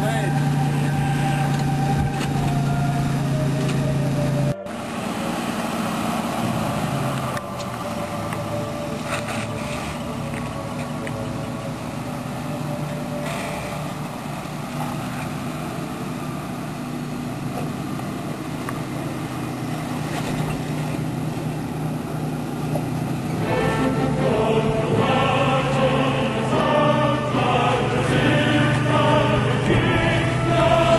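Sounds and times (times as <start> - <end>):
truck engine running at low revs: 0.0 - 30.9.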